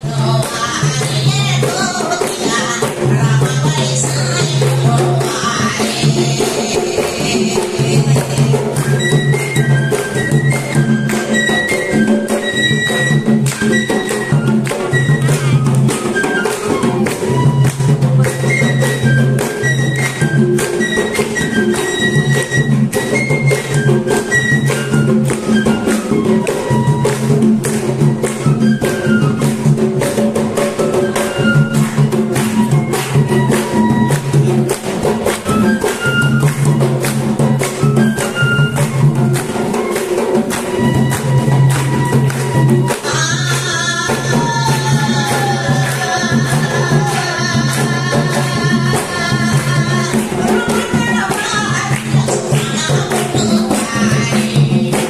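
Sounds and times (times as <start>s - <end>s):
barrel drum beating: 0.0s - 55.0s
bamboo flute melody: 7.5s - 54.6s.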